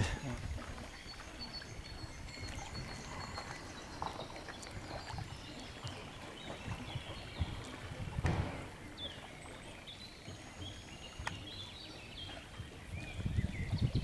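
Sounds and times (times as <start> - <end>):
wind rumble on microphone: 0.0 - 9.2, 11.0 - 14.0.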